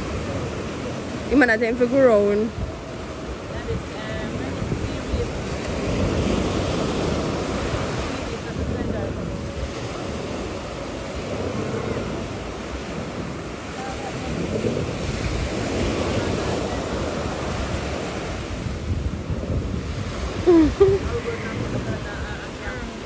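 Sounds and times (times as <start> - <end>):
small waves breaking on shore: 0.0 - 23.0
wind buffeting microphone: 0.0 - 23.0.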